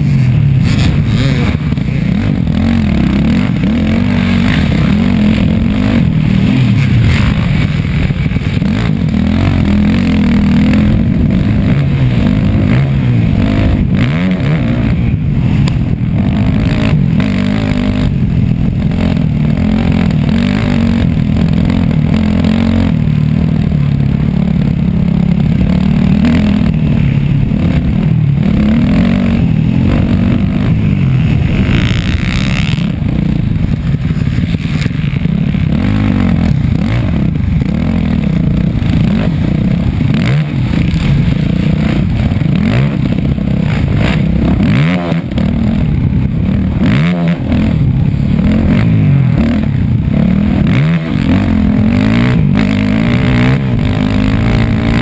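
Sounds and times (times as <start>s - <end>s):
bike rattling: 0.0s - 14.4s, 15.0s - 55.0s
dirt bike engine revving: 0.0s - 55.0s.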